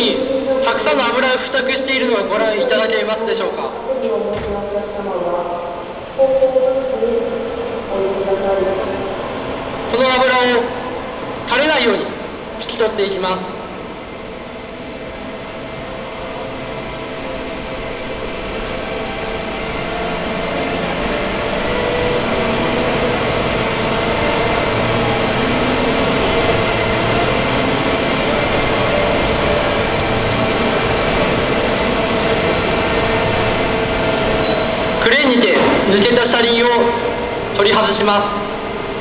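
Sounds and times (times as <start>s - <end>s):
heavy machinery humming: 0.0s - 39.0s.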